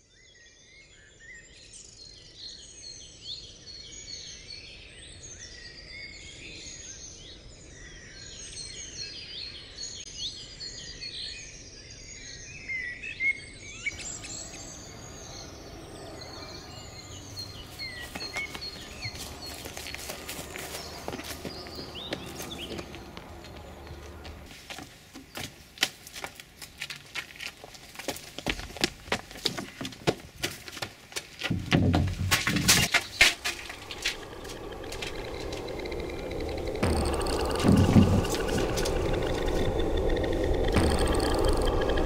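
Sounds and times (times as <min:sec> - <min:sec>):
birds singing and chirping: 0:00.2 - 0:24.5, 0:31.5 - 0:42.0.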